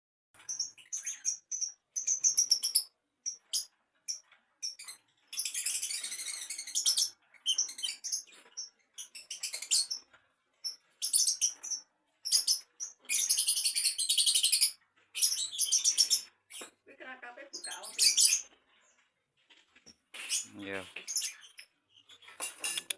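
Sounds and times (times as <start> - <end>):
small birds chirping: 0.4 - 22.9.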